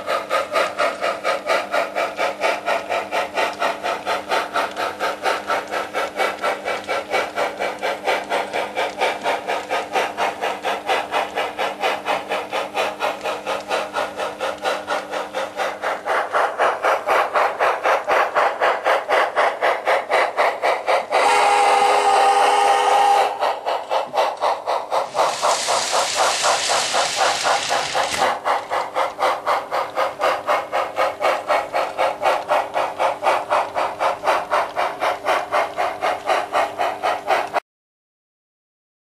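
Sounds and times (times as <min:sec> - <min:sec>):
model steam engine chuffing: 0:00.0 - 0:37.6
steam hiss: 0:00.0 - 0:37.6.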